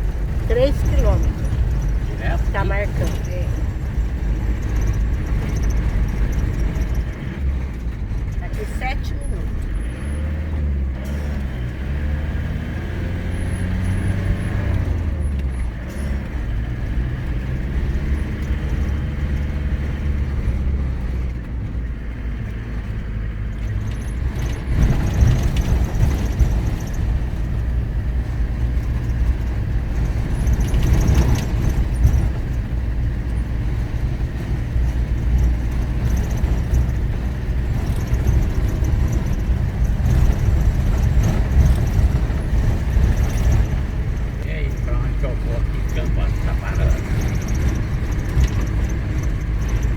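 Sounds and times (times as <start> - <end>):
car engine running: 0.0 - 49.9
tyre and road noise rumble: 0.0 - 49.9.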